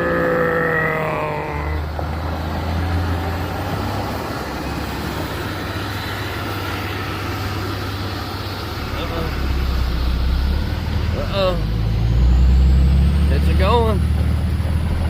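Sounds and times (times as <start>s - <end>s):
diesel truck engine under load: 0.0s - 15.0s.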